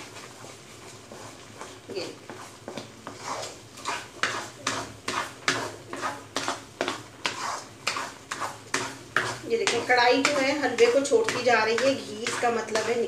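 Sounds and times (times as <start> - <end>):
spoon scraping a pan: 0.4 - 13.0.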